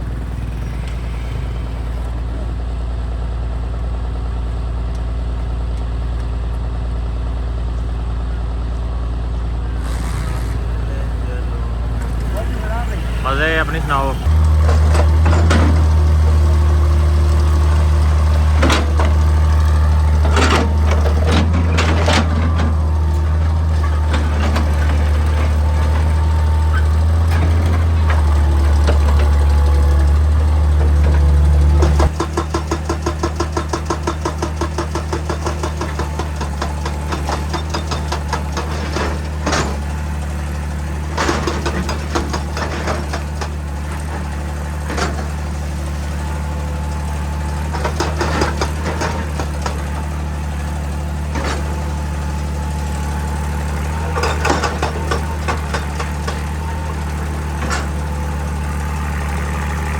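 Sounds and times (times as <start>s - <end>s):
excavator engine humming: 0.0s - 59.9s
hydraulic breaker hammering rock: 9.8s - 59.9s.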